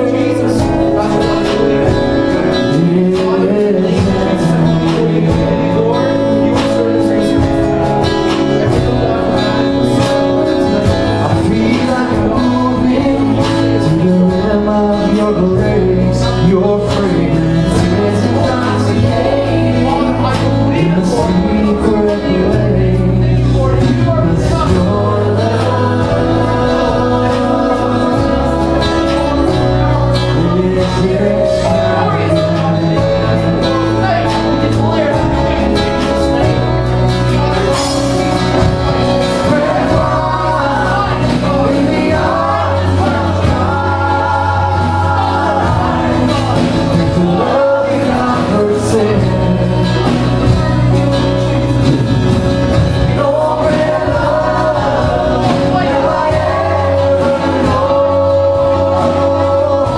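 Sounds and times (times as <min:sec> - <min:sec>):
low bass notes: 0:00.0 - 0:59.9
person singing: 0:00.0 - 0:59.9
worship band playing: 0:00.0 - 0:59.9.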